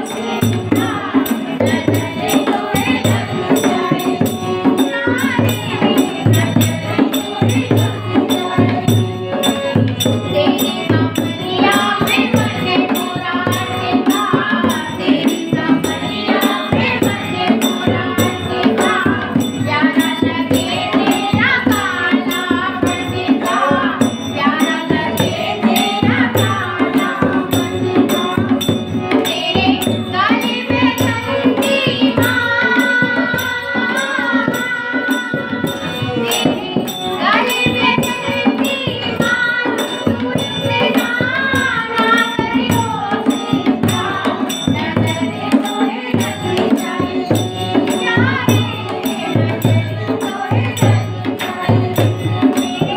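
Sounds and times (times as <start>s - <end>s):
women singing in unison: 0.0s - 52.9s.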